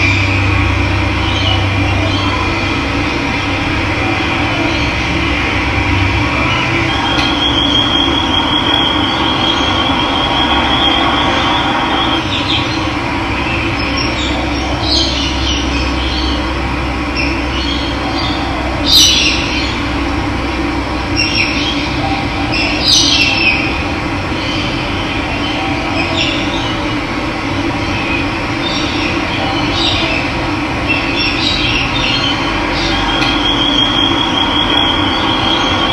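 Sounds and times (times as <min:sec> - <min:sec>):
birds calling: 0:00.0 - 0:35.9.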